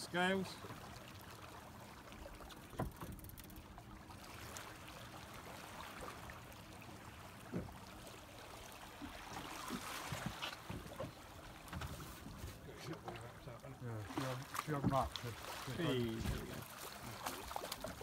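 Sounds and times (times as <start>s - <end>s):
water lapping against boat: 0.0s - 18.0s.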